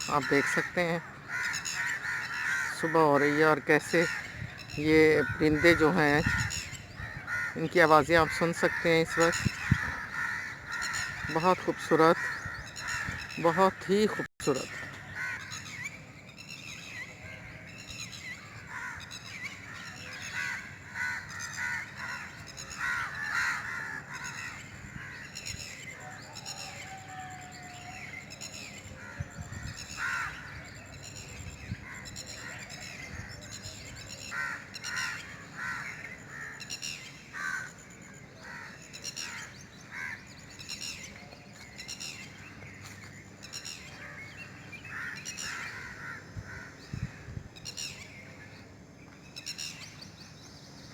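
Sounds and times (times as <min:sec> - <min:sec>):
birds dawn chorus: 0:00.0 - 0:50.9.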